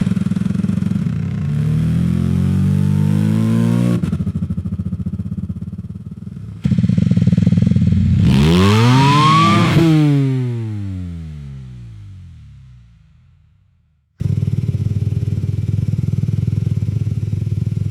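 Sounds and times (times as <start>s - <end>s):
motorcycle engine revving: 0.0s - 13.5s, 14.2s - 17.9s.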